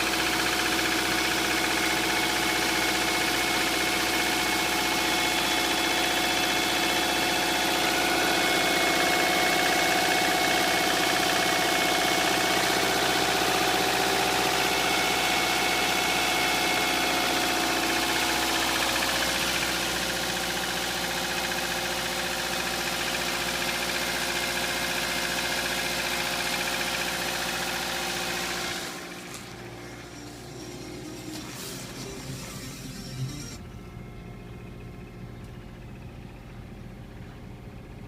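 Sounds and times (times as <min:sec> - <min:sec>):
car engine running with knock: 0:00.0 - 0:33.9.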